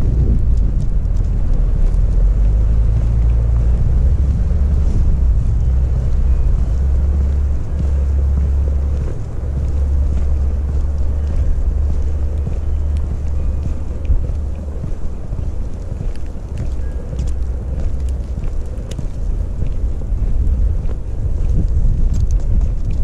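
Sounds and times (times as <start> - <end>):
faint crackles: 0.0 - 23.0
wind buffeting microphone: 0.0 - 23.0.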